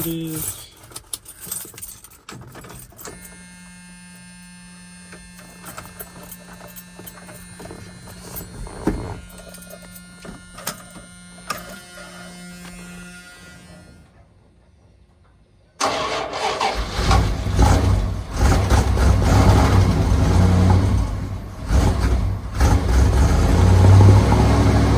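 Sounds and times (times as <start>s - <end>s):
truck electric hum: 3.0s - 24.9s.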